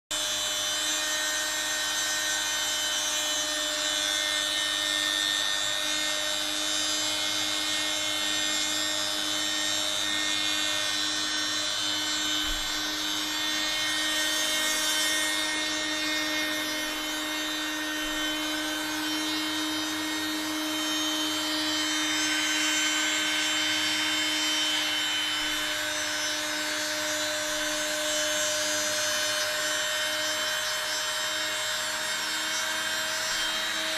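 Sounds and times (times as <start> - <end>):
router bit cutting wood: 0.1 - 33.9
router spindle whining: 0.1 - 33.9.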